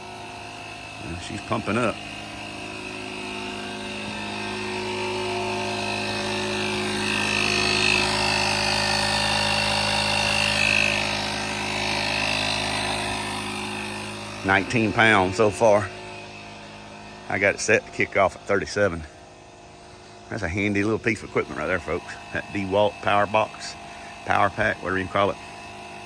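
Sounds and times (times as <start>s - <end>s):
air compressor running: 0.0s - 26.0s.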